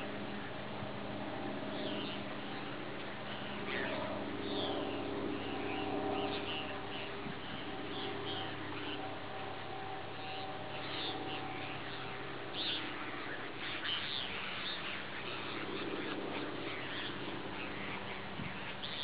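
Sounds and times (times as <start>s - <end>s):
birds chirping: 0.0s - 19.0s
faint hum: 0.0s - 19.0s.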